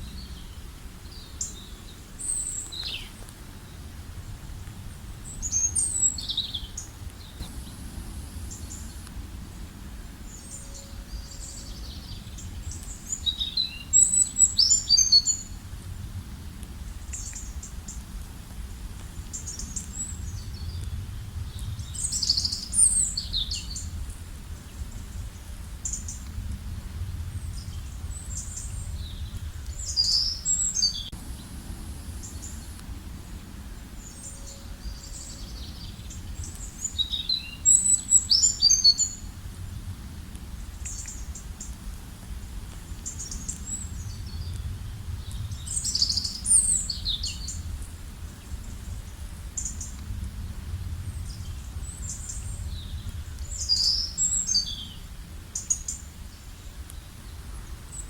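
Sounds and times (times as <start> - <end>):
low steady rumble: 0.0 - 58.0.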